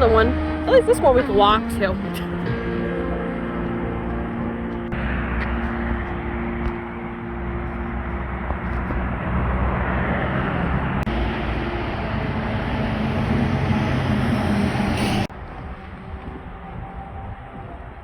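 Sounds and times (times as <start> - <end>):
engine and tyre road noise: 0.0 - 18.0.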